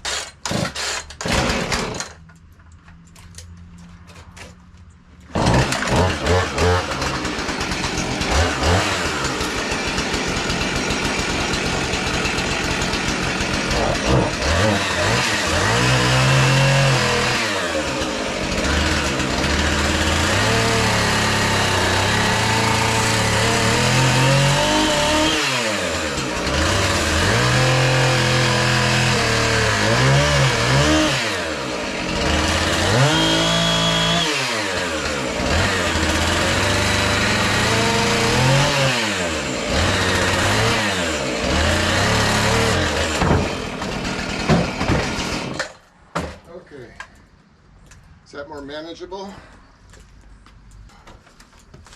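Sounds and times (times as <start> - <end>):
chainsaw cutting log: 0.0 - 2.3, 5.2 - 46.4.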